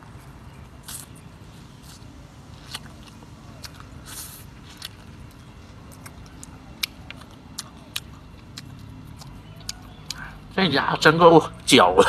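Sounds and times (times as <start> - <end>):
crunchy chewing: 0.0 - 10.6.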